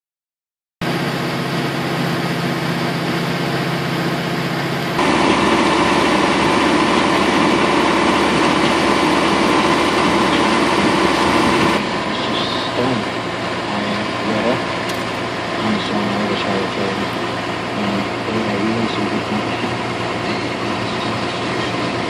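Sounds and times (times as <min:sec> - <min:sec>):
feed mixer machine running: 0:00.8 - 0:22.0
tractor engine running: 0:00.8 - 0:22.0.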